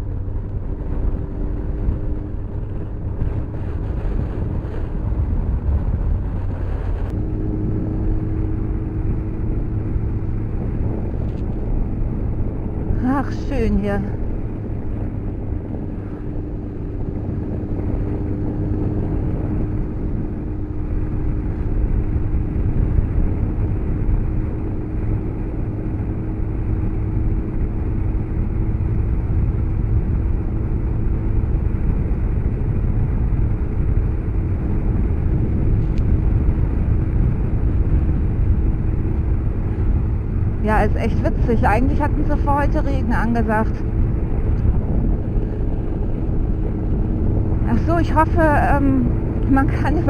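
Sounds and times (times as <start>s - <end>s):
wind and road noise: 0.0s - 50.0s.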